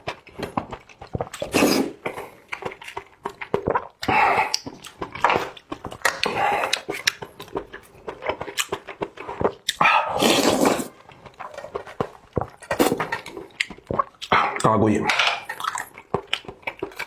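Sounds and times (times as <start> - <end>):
chewing and lip-smacking: 0.0 - 17.0
wet slurps: 0.6 - 17.0.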